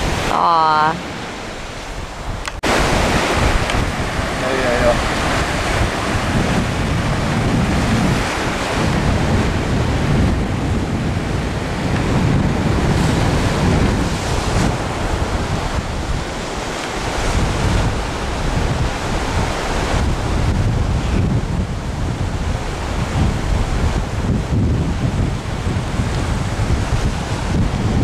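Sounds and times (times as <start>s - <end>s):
ocean surf on sandy beach: 0.0s - 28.0s
wind buffeting microphone: 0.0s - 28.0s.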